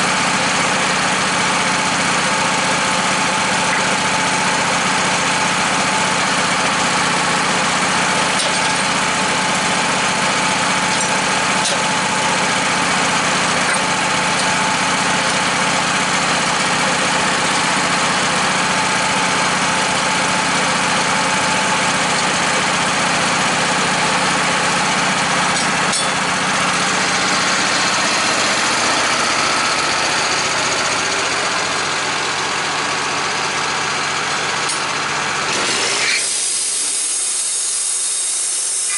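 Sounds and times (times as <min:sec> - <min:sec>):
sawmill engine cutting log: 0:00.0 - 0:38.9.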